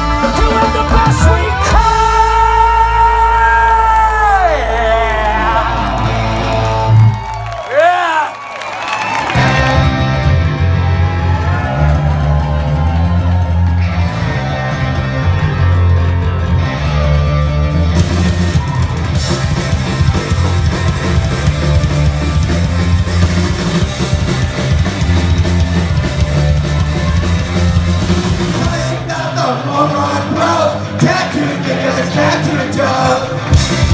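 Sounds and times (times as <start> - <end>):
punk rock band playing: 0.0 - 7.6, 9.1 - 33.9.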